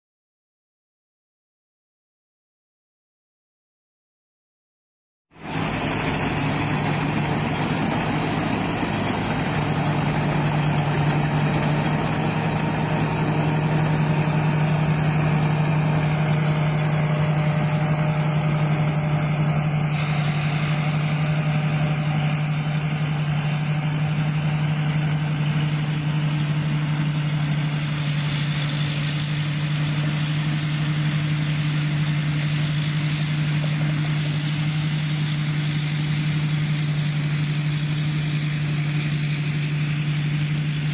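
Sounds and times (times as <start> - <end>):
combine harvester engine hum: 5.4 - 40.9
high whine: 5.4 - 40.9.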